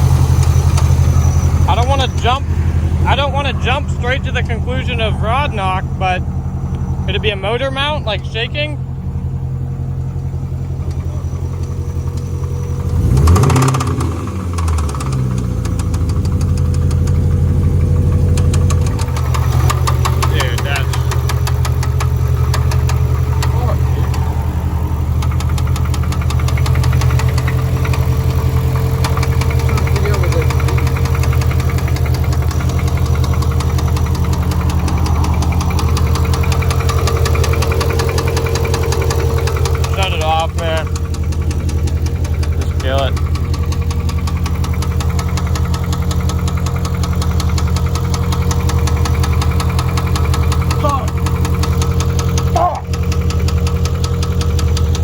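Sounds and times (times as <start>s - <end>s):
engine revving: 0.0s - 55.0s
engine running with knock: 0.0s - 55.0s.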